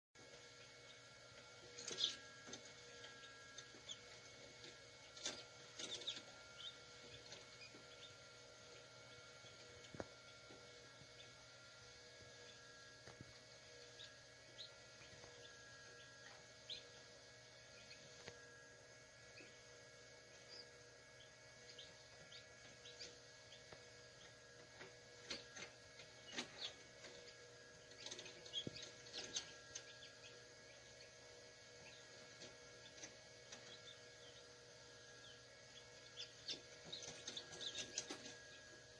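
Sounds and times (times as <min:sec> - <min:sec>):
chicks peeping: 0:00.2 - 0:38.9
incubator hum: 0:00.2 - 0:38.9.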